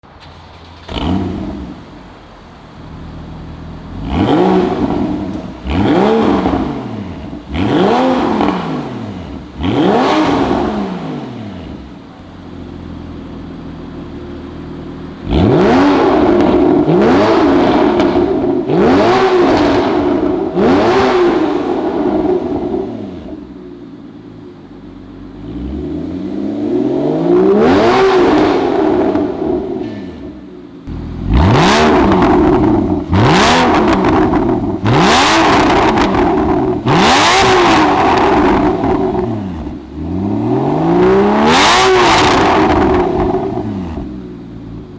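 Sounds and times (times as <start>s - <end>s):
sports car engine revving: 0.4s - 44.9s.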